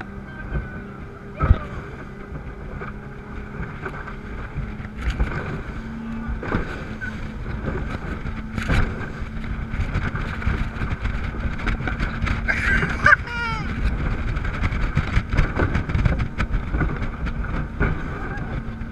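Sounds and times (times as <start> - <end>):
outboard motors droning: 0.0 - 18.9
wind buffeting microphone: 0.0 - 18.9.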